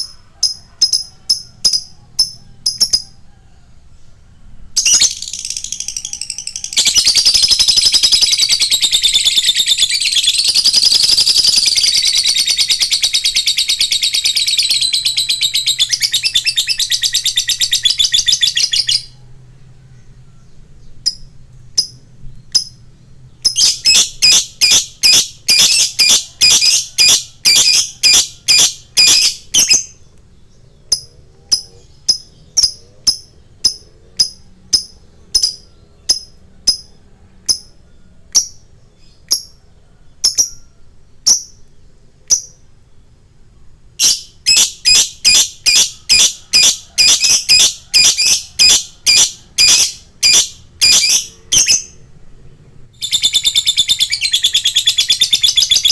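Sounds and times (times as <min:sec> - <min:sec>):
lovebird chirping: 0:00.0 - 0:03.4, 0:04.0 - 0:52.2, 0:53.0 - 0:55.9.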